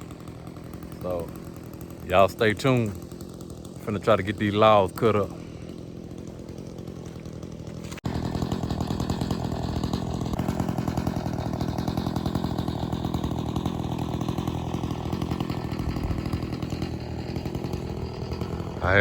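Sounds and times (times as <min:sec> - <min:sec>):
chainsaw running: 0:00.0 - 0:19.0.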